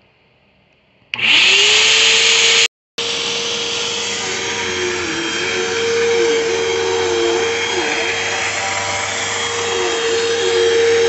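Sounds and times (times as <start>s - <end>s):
vacuum cleaner motor whining: 1.2s - 11.0s.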